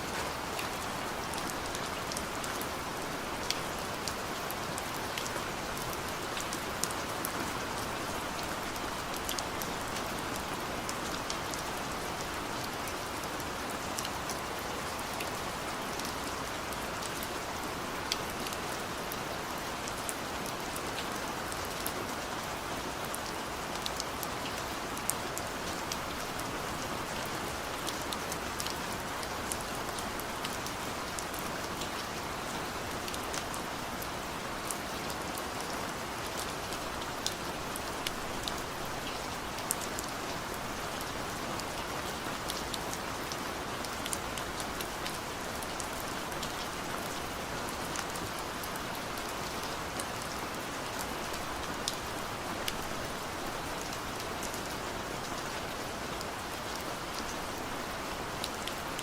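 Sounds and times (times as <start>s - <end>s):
steady rain falling: 0.0s - 59.0s
raindrops ticking on a surface: 0.1s - 59.0s.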